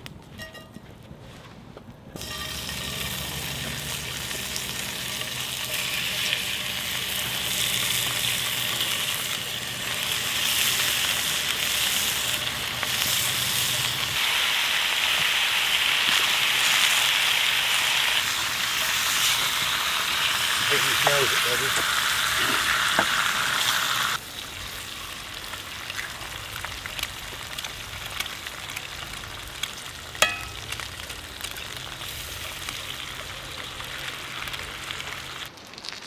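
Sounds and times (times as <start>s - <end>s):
food sizzling in a pan: 2.2s - 36.0s.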